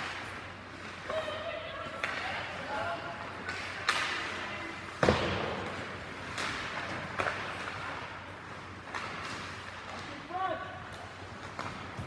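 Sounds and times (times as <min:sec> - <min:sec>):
hockey sticks and puck knocking: 0:01.9 - 0:12.0.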